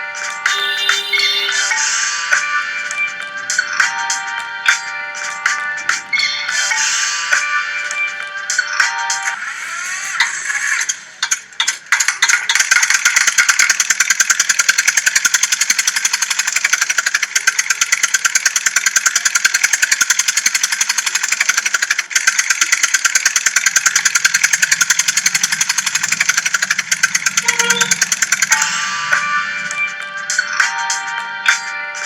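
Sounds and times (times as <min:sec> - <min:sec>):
toy tractor chugging clatter: 0:00.2 - 0:07.1, 0:10.0 - 0:31.0.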